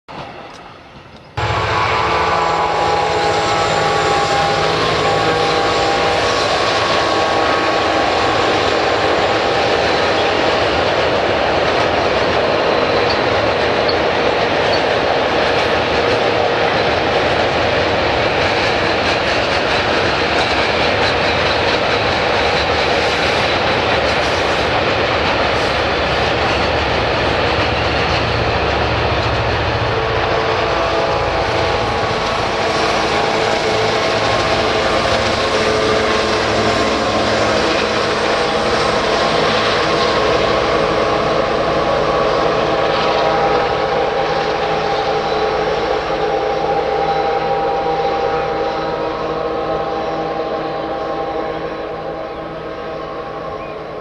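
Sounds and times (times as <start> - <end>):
diesel locomotive engine under load: 0.1 - 54.0
wagons rumbling and clattering on rails: 3.4 - 54.0.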